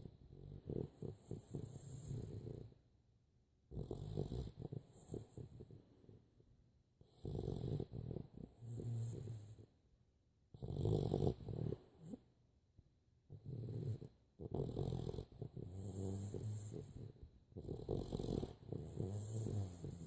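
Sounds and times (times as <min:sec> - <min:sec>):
dog snoring: 0:00.0 - 0:02.8, 0:03.7 - 0:06.4, 0:07.0 - 0:09.7, 0:10.5 - 0:12.3, 0:13.3 - 0:20.0.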